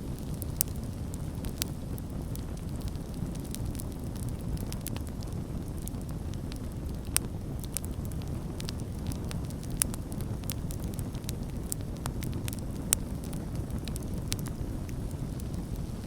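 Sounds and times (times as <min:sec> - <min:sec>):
campfire flames rushing: 0:00.0 - 0:16.0
fire crackling and popping: 0:00.0 - 0:16.0.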